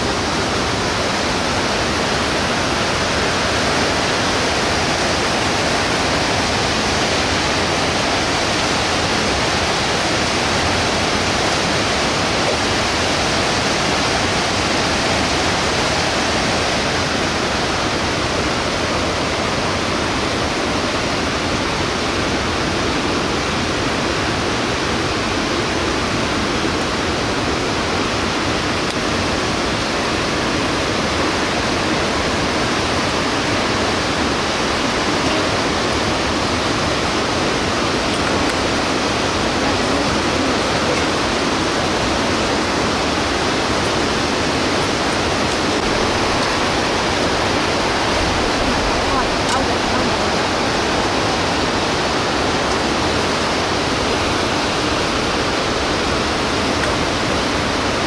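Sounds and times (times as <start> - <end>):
river rushing over rapids: 0.0 - 58.0.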